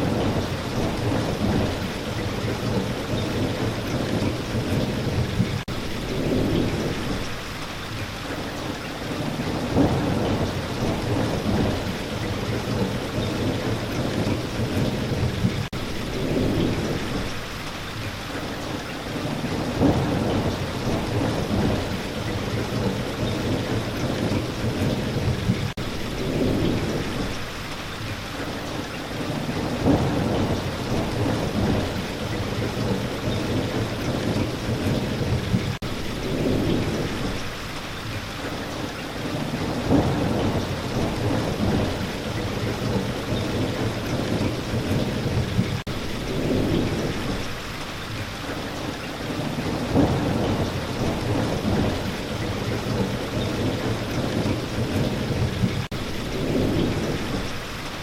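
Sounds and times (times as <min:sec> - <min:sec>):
low thunder rumbles: 0:00.0 - 0:07.5, 0:09.0 - 0:17.4, 0:19.1 - 0:58.0
steady rain falling: 0:00.0 - 0:58.0.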